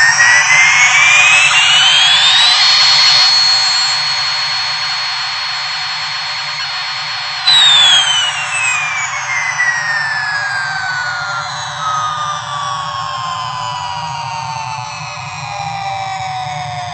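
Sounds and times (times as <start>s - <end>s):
toy airplane jet whine: 0.0s - 16.9s.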